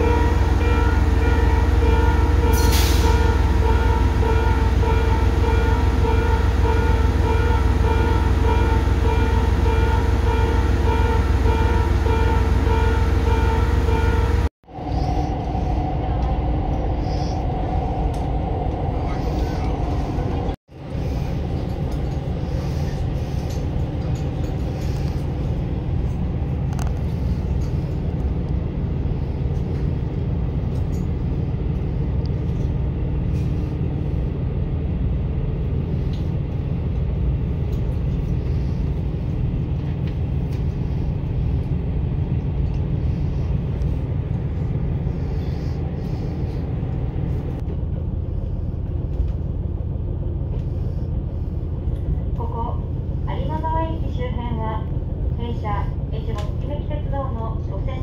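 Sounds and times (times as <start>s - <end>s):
diesel railcar rumble: 0.0s - 58.0s.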